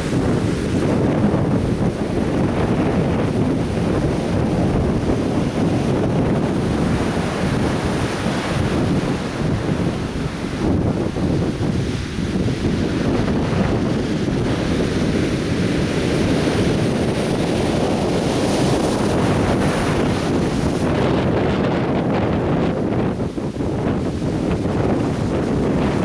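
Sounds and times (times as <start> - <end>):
surf breaking on beach: 0.0 - 26.0
wind buffeting microphone: 0.0 - 26.0.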